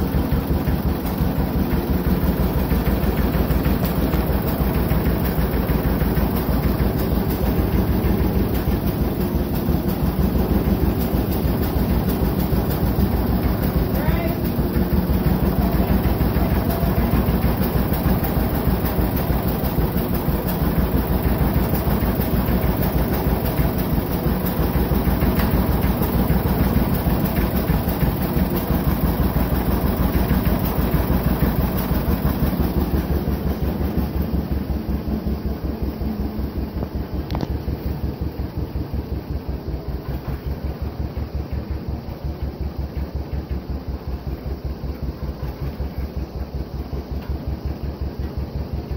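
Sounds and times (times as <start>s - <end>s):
tractor engine pulsing: 0.0s - 39.2s.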